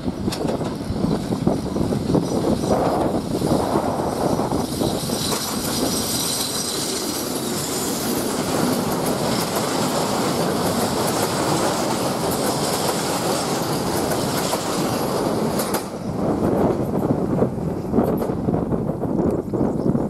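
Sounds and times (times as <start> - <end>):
wheels clattering over rail joints: 0.0 - 3.5, 4.3 - 17.0
freight train rumbling past: 0.0 - 19.8.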